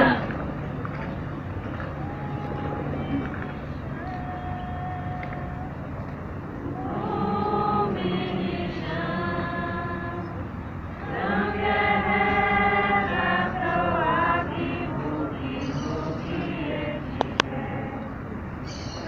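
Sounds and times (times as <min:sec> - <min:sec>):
choir singing held notes: 0:02.0 - 0:18.6.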